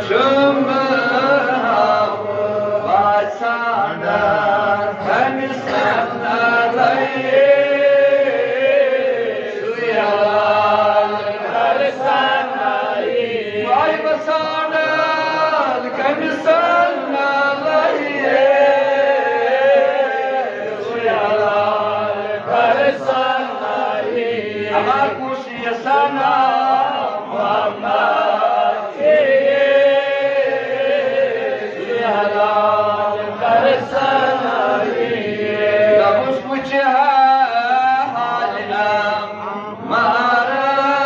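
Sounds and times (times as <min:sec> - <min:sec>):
man chanting melodically: 0:00.0 - 0:41.0.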